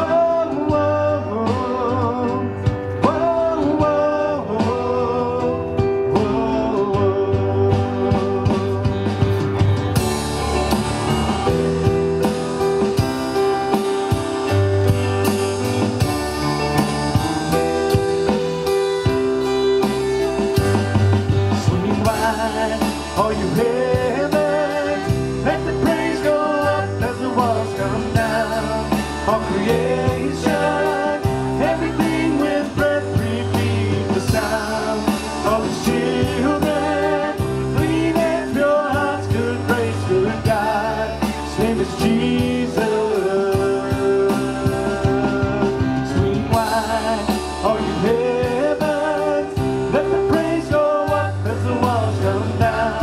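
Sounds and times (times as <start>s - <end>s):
person singing: 0.0s - 13.8s, 15.6s - 53.0s
bass line: 0.0s - 53.0s
guitar: 0.0s - 53.0s
steady drum beat: 5.8s - 53.0s.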